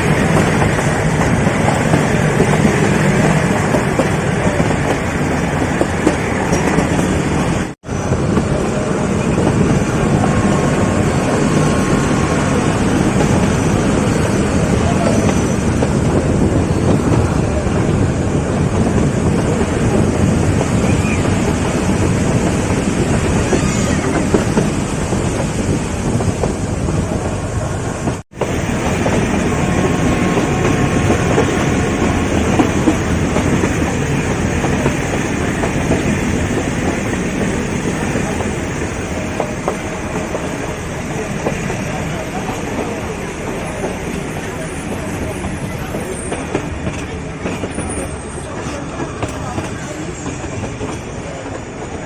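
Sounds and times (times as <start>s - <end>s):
train rumbling: 0.0s - 52.0s
wheels clickety-clack on rails: 0.0s - 52.0s.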